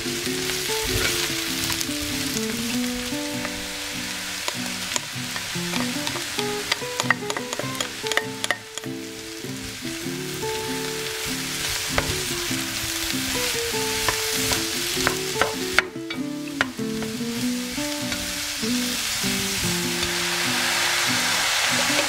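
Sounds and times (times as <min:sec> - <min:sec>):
background music: 0:00.0 - 0:22.0
vegetables sizzling in oil: 0:00.0 - 0:22.0.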